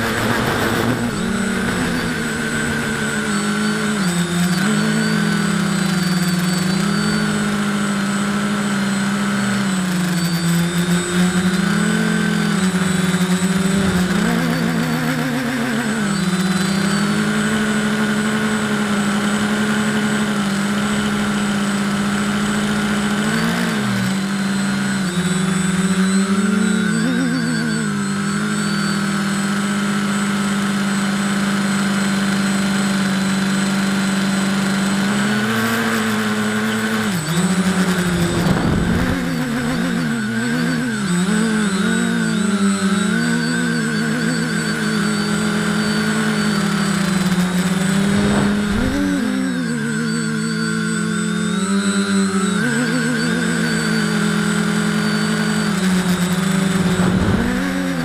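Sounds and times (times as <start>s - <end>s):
drone motors buzzing: 0.0s - 58.0s.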